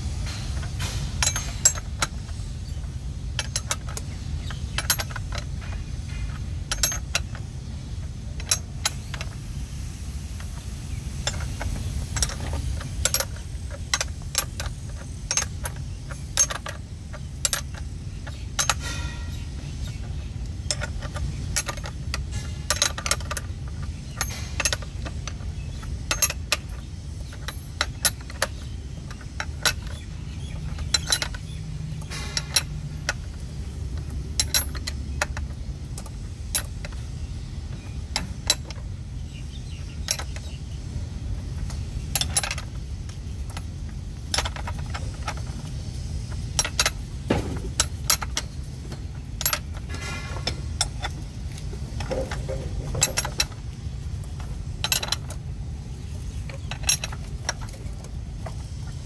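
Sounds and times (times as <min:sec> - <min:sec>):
steady low rumble: 0:00.0 - 0:59.0
spanners clicking on bolts: 0:00.2 - 0:59.0.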